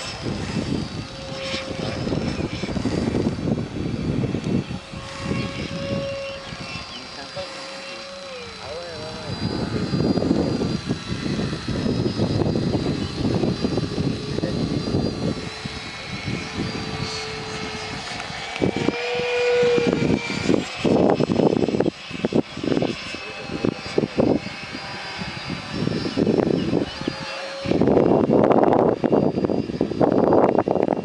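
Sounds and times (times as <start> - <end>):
drone rotors buzzing whine: 0.0 - 31.0
low rumbling: 0.0 - 31.0.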